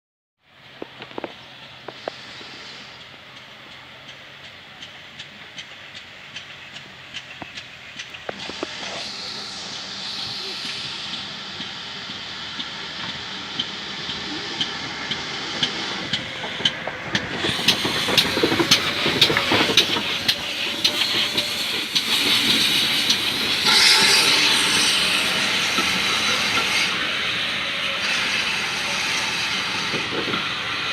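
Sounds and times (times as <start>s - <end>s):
train wheels clicking over rail joints: 0.6s - 30.9s
steam hissing: 1.4s - 30.9s.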